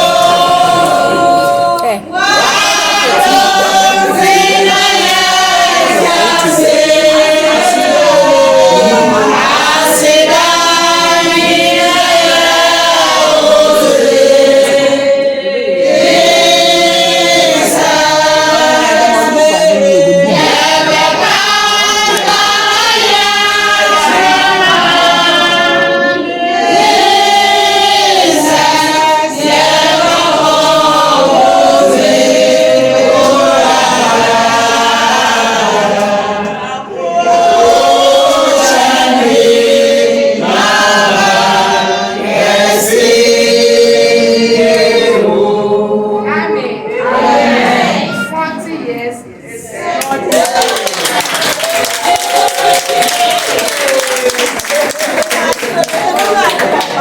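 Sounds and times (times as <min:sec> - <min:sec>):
group singing in chorus: 0:00.0 - 0:48.4.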